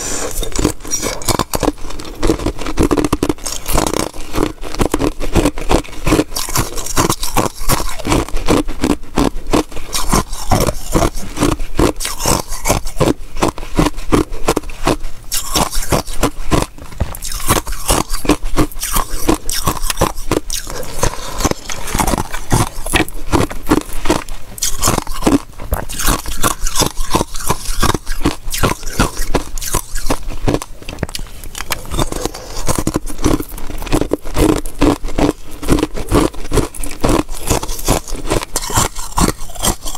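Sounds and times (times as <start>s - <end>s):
ice cubes crunching and cracking: 0.0s - 39.9s.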